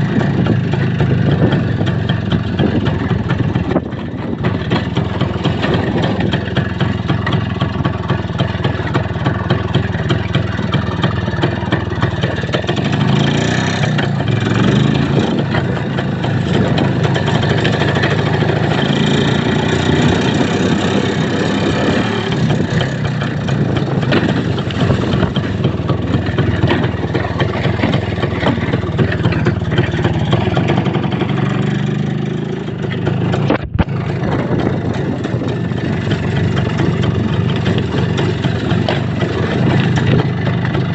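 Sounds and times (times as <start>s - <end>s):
vehicle engine revving while driving: 0.0s - 40.9s.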